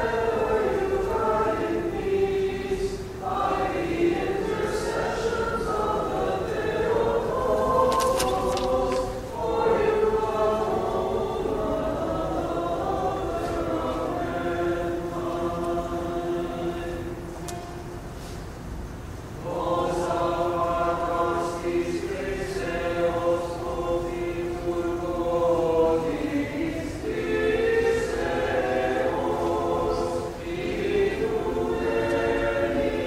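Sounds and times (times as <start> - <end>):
church choir singing: 0.0 - 18.6, 19.3 - 33.0.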